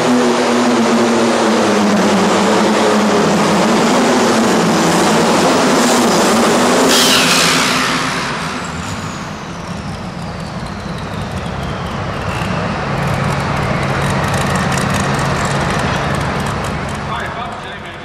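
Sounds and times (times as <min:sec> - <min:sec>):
turbocharger whine winding down: 0:00.0 - 0:17.1.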